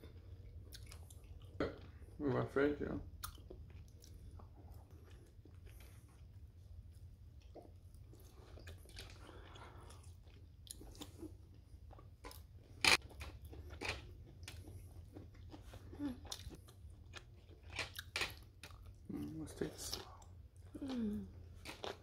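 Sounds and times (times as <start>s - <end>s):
person chewing food: 0.0s - 2.2s, 3.1s - 22.0s.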